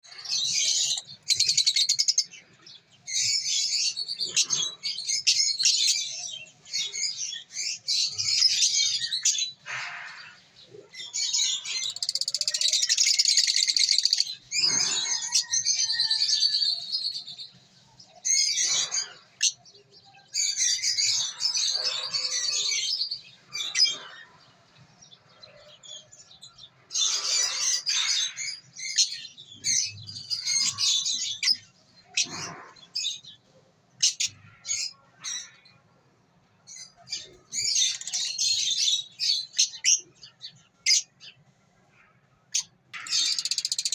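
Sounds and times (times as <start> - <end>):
bird chicks chirping: 0.0 - 35.8, 36.7 - 41.6.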